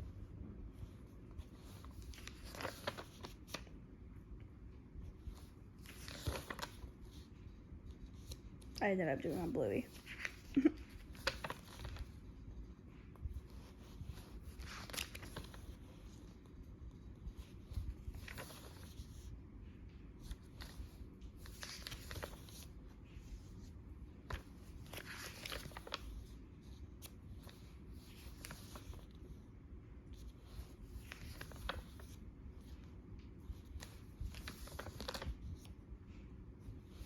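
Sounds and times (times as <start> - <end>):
soft paper crinkle: 0.0 - 37.0
pages being turned: 0.8 - 3.7, 5.0 - 19.3, 19.9 - 29.3, 30.1 - 37.0.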